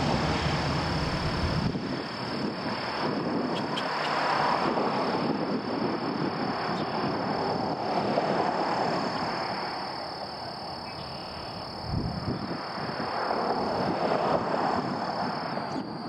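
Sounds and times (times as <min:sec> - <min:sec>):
high engine whine: 0:00.0 - 0:16.0
jet engines droning: 0:00.0 - 0:16.0.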